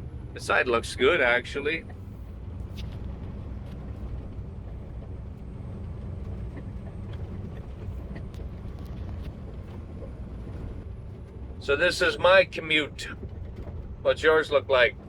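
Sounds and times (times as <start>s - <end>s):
truck engine and tyre rumble: 0.0s - 15.0s.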